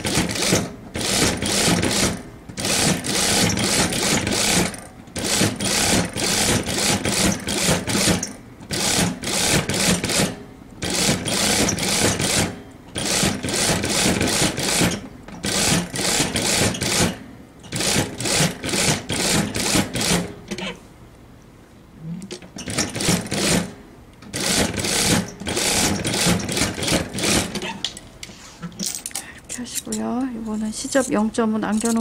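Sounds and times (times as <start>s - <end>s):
sewing machine stitching: 0.0s - 20.8s, 22.6s - 27.8s.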